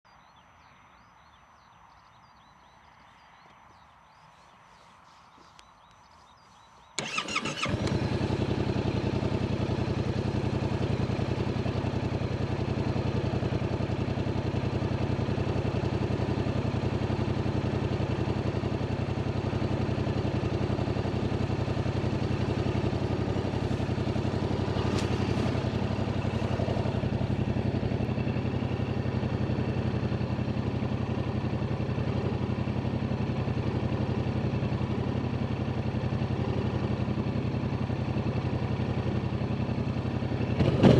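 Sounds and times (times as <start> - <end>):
motorcycle engine starting and idling: 6.7 - 40.9.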